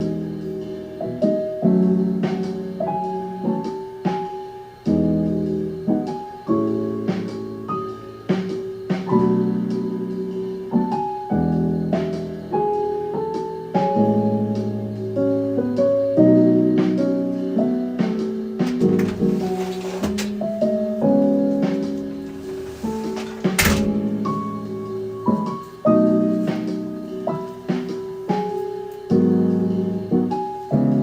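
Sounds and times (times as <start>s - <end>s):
piano chords and melody: 0.0s - 31.0s.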